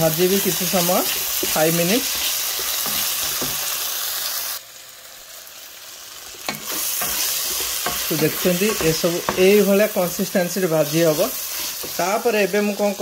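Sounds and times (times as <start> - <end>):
vegetables sizzling in pot: 0.0 - 13.0.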